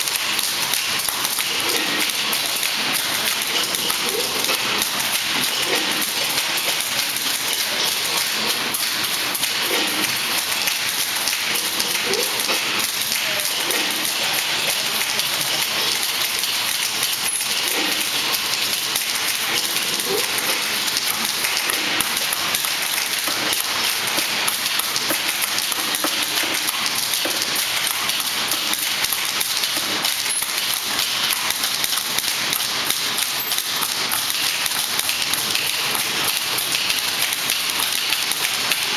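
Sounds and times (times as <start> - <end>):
typewriters clattering: 0.0 - 38.9.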